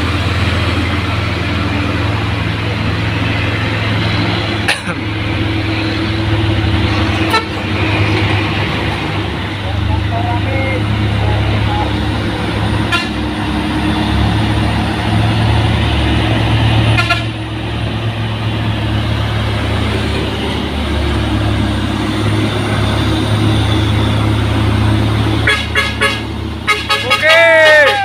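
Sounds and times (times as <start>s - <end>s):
diesel trucks engine drone: 0.0s - 28.0s.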